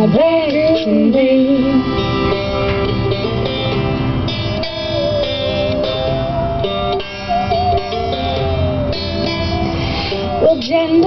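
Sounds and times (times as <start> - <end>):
accordion chords: 0.0 - 11.0
banjo picking: 0.0 - 11.0
bowed musical saw melody: 1.5 - 11.0.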